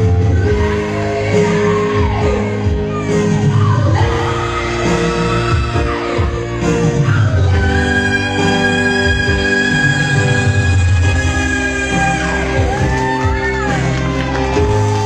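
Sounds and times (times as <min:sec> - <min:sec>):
live band playing rock ballad: 0:00.0 - 0:15.0.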